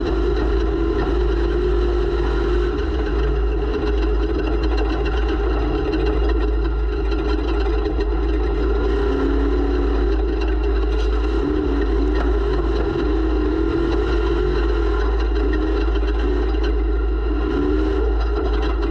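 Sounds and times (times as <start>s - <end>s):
race vehicle engine running hard: 0.0s - 18.9s.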